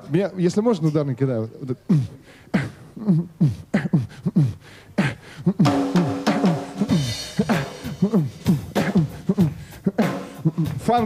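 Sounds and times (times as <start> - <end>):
man beatboxing: 1.7 - 11.0
held vocal note: 1.9 - 10.8.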